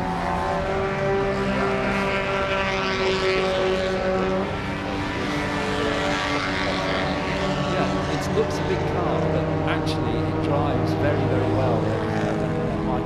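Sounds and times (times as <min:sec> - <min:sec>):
car engine running at speed: 0:00.0 - 0:13.0.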